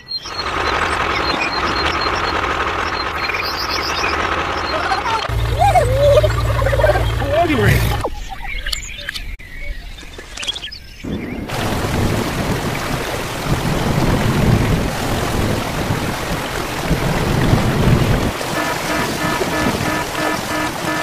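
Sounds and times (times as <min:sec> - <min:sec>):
low rumbles: 0:00.2 - 0:08.3, 0:11.0 - 0:20.9
heavy rain: 0:00.3 - 0:08.0, 0:11.0 - 0:21.0.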